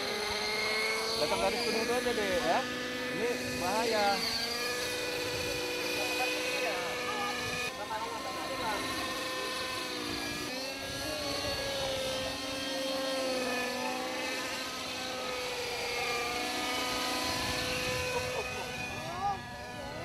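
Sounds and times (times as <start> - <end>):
model helicopter motor whine: 0.0 - 20.0.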